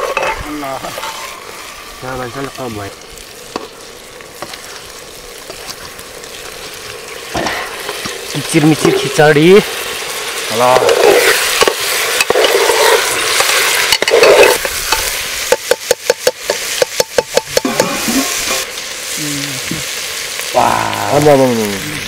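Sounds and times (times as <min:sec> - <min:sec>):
stirring strokes against pan: 0:00.0 - 0:02.6, 0:03.2 - 0:20.5
vegetables sizzling in a pan: 0:00.0 - 0:22.0.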